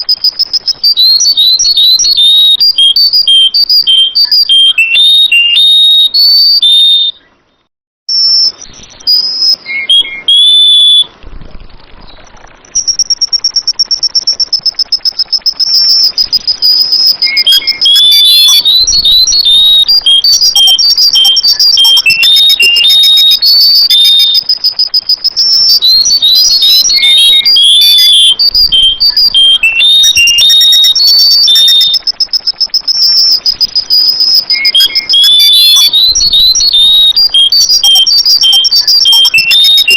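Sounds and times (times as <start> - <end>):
steady high-pitched trill: 0.0 - 7.3, 8.1 - 39.9
bird whistled chirping song: 0.0 - 39.9.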